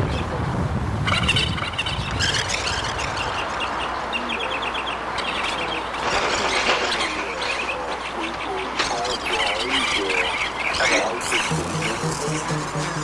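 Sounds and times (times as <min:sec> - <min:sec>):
birds chirping: 0:01.0 - 0:13.0.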